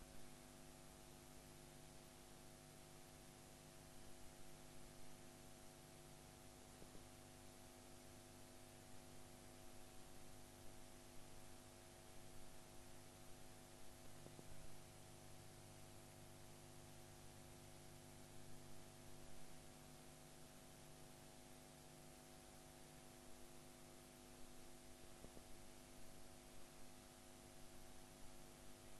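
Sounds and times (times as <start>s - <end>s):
faint steady hiss: 0.0s - 7.1s, 8.4s - 28.9s
low electrical hum: 0.0s - 28.9s.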